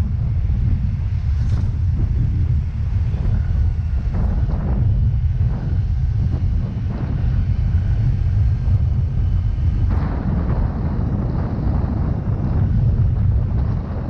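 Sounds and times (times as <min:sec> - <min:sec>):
scooter engine drone: 0:00.0 - 0:14.0
wind buffeting microphone: 0:00.0 - 0:14.0.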